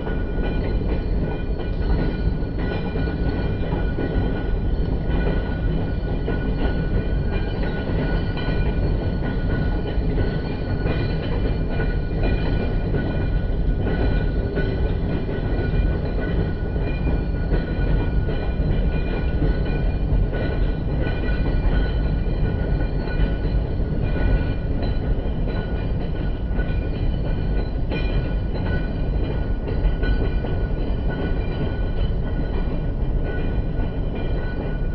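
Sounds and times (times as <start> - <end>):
roller coaster lift hill clattering: 0.0 - 34.9.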